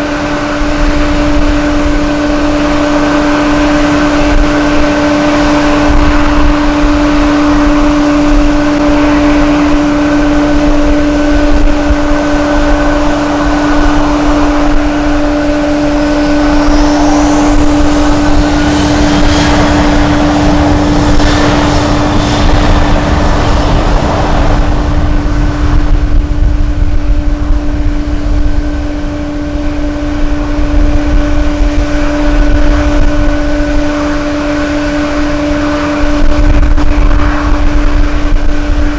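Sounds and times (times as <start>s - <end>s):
jet engines humming: 0.0s - 38.9s
rising jet engine whine: 0.0s - 38.9s
wind buffeting microphone: 0.0s - 38.9s.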